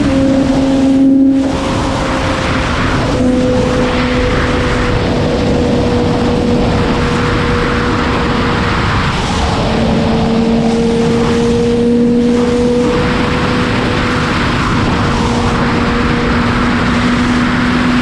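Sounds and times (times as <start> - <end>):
motorcycle engine at speed: 0.0 - 18.0
wind rushing over camera: 0.0 - 18.0.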